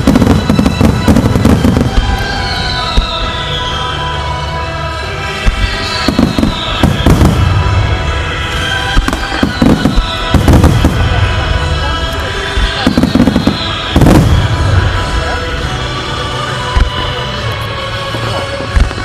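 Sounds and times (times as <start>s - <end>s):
deep rumble: 0.0s - 19.0s
music playing: 0.0s - 19.0s.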